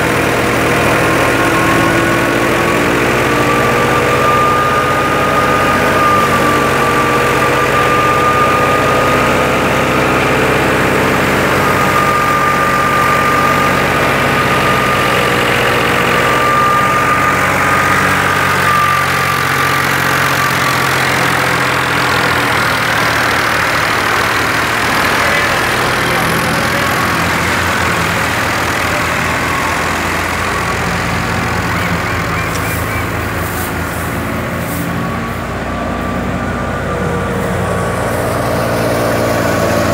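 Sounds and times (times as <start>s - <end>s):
thresher high whine: 0.0s - 39.9s
tractor diesel engine droning: 0.0s - 39.9s.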